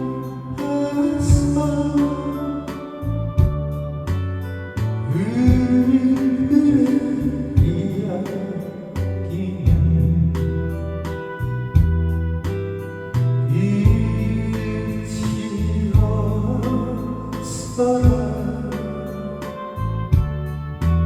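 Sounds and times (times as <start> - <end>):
person singing: 0.0 - 3.8, 4.8 - 11.5, 13.2 - 20.5
instrumental accompaniment: 0.0 - 21.0.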